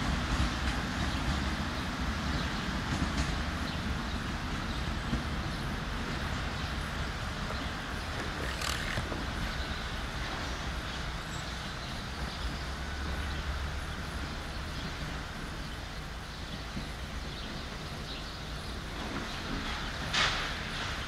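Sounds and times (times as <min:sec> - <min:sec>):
diesel railway engine running: 0:00.0 - 0:21.0.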